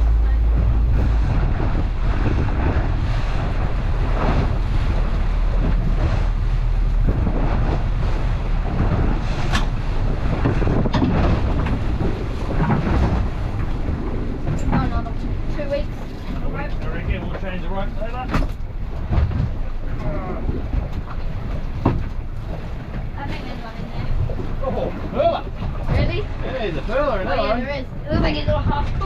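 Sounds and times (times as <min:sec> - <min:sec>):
choppy water: 0:00.0 - 0:29.0
heavy low rumble: 0:00.0 - 0:29.0
wind buffeting microphone: 0:00.0 - 0:29.0.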